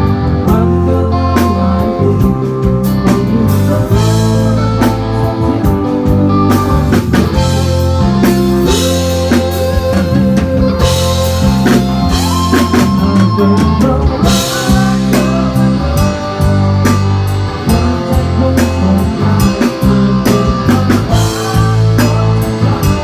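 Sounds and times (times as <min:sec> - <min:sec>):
band playing instrumental: 0:00.0 - 0:23.0
bass guitar: 0:00.0 - 0:23.0
lead melody with sliding bends: 0:00.0 - 0:23.0
drum kit beat: 0:00.5 - 0:23.0.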